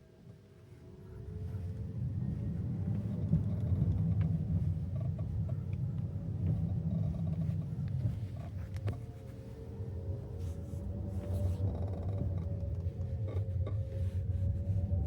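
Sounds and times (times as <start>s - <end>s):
road and tyre rumble in car: 1.0s - 15.0s.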